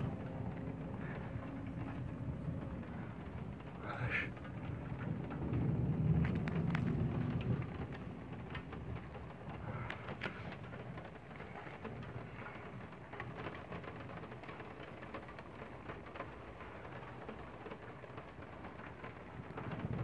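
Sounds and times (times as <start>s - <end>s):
raindrops ticking on glass: 0.0s - 20.0s
steady rain falling: 0.0s - 20.0s.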